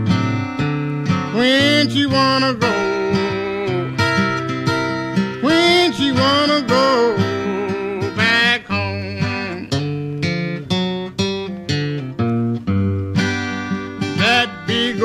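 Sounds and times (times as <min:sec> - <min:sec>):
acoustic guitar blues: 0:00.0 - 0:15.0.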